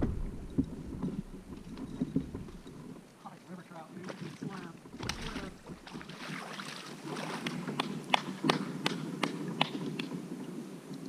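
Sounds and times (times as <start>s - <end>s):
water rushing: 0.0s - 9.8s
wind: 0.0s - 11.0s.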